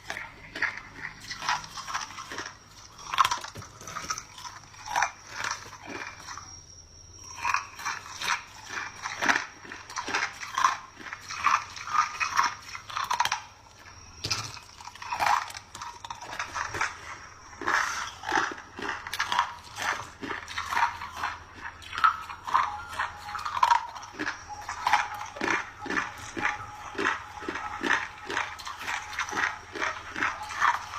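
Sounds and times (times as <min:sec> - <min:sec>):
ice crunched between teeth: 0:00.0 - 0:06.6, 0:07.2 - 0:30.9.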